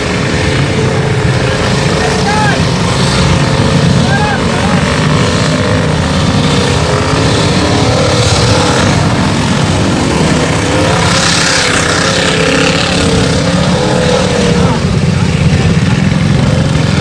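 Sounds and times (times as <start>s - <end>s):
tires churning mud and water: 0.0s - 17.0s
truck engine running hard: 0.0s - 17.0s.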